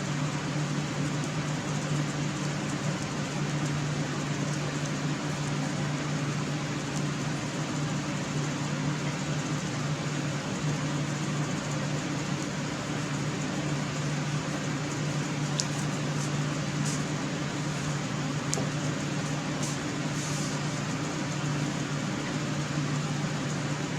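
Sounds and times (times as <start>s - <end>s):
mechanical hum with low drone: 0.0s - 23.9s.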